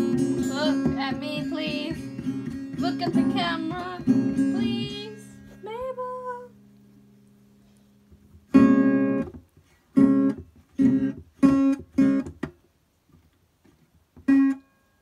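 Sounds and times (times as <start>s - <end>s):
guitar chords strummed: 0.0s - 9.4s, 10.0s - 12.4s, 14.2s - 15.0s.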